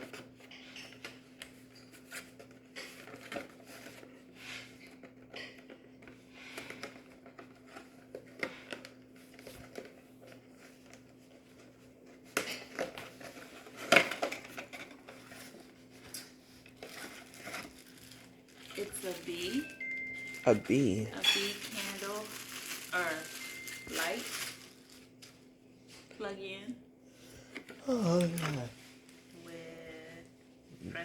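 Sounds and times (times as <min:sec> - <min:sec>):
gift packaging rustling: 0:01.0 - 0:25.5, 0:27.5 - 0:28.8.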